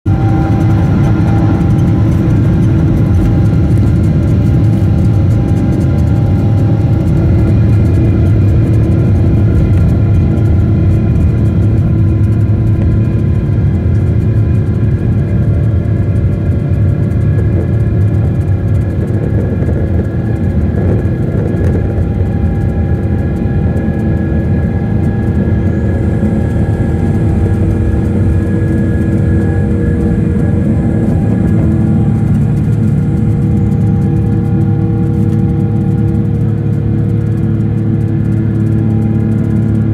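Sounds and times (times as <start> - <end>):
aircraft engine hum: 0.0 - 39.9
low rumble of runway: 0.0 - 39.9.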